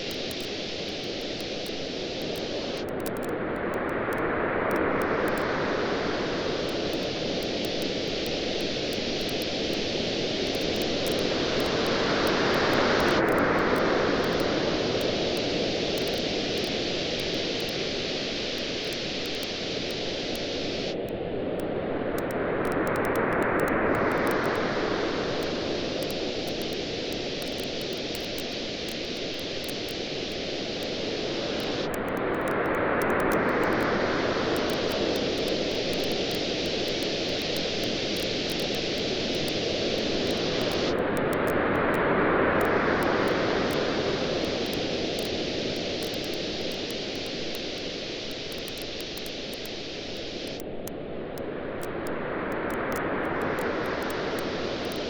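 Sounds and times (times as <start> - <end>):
waves washing on a beach: 0.0 - 55.0.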